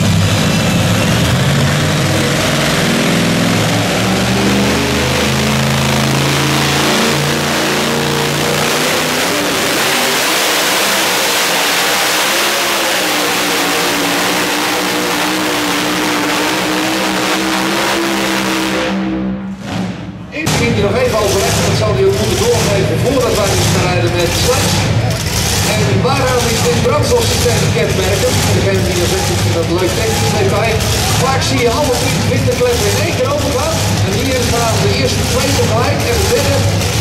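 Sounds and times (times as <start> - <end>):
truck engine running flat out: 0.0 - 37.0.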